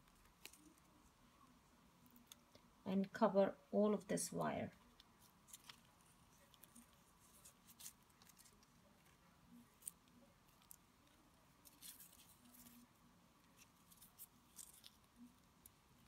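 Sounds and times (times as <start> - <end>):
tape crackling and rustling: 0.0 - 2.8, 4.4 - 16.0.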